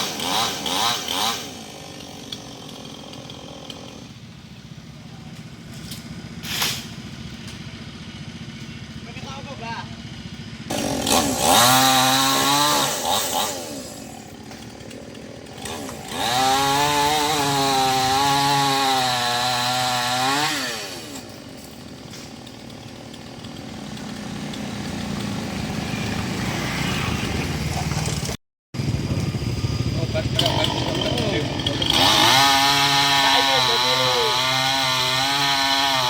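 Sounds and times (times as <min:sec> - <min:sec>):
chainsaw cutting branches: 0:00.0 - 0:04.2, 0:05.4 - 0:09.0, 0:10.0 - 0:27.0, 0:30.2 - 0:36.0.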